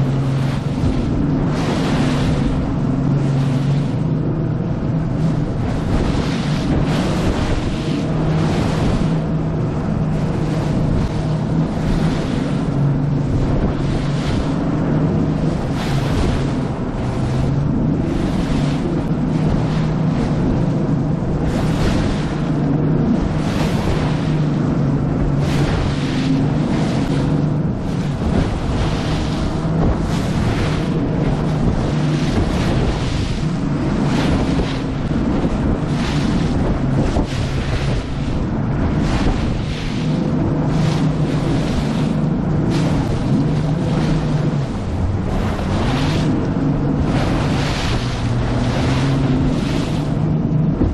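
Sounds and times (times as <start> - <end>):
hull slamming into waves: 0.0 - 50.9
outboard engine drone: 0.0 - 50.9
wind noise on microphone: 0.0 - 50.9.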